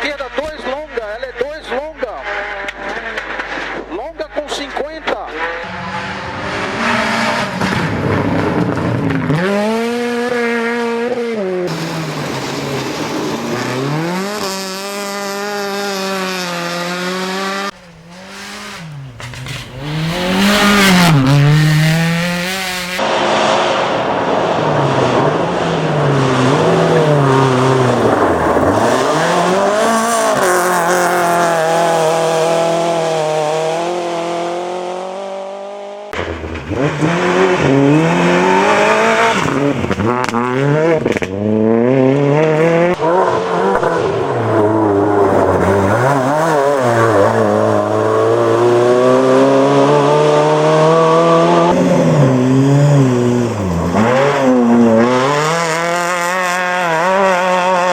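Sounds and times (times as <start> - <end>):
rally car engines revving: 0.0 - 57.9.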